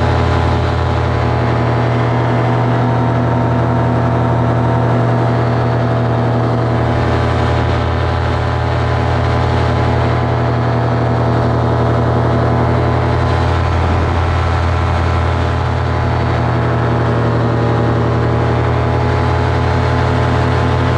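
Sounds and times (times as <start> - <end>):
paramotor engine droning: 0.0 - 20.9.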